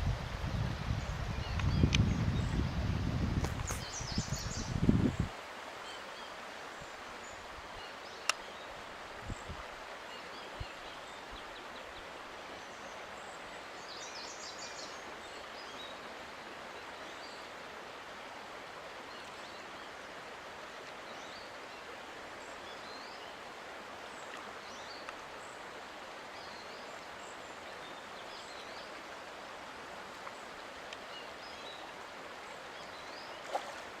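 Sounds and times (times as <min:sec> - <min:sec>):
stream water flowing: 0:00.0 - 0:34.0.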